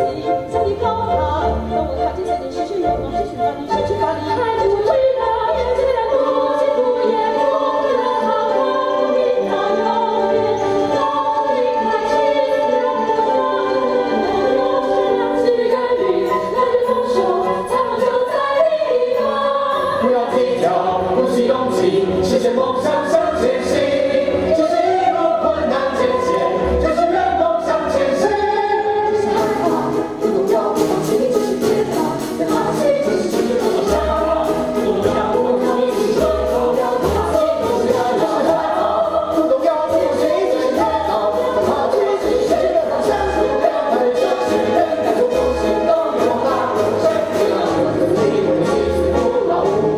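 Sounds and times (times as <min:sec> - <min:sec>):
cast singing together: 0:00.0 - 0:49.9
instrumental accompaniment: 0:00.0 - 0:49.9.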